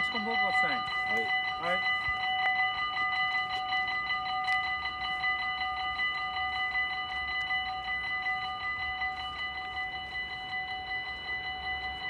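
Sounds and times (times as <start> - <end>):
level crossing bell ringing fast: 0.0 - 12.0.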